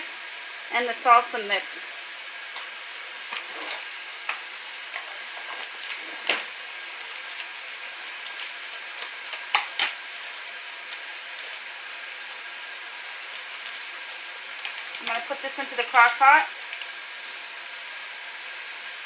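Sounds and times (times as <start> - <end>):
tap water running: 0.0 - 19.0.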